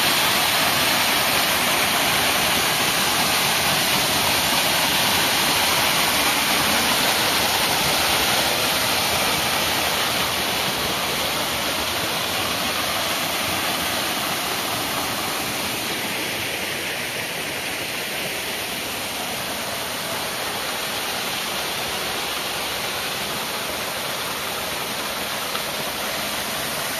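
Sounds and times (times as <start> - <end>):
waterfall splashing into pool: 0.0 - 26.9.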